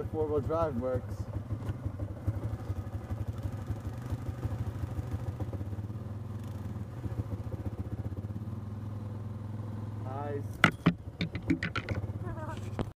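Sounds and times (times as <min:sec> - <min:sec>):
engine running at low revs: 0:00.0 - 0:12.9.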